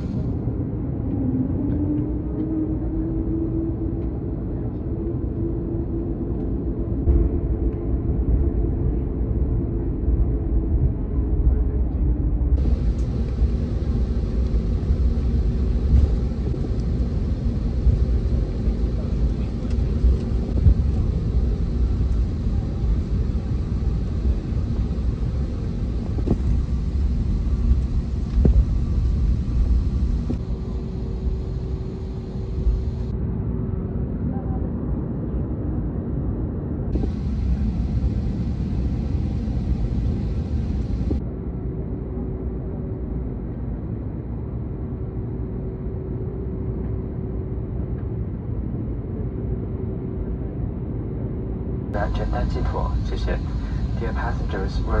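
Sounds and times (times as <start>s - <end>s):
droning hum: 0.0s - 34.8s, 36.8s - 55.0s
airplane cabin rumble: 0.0s - 55.0s.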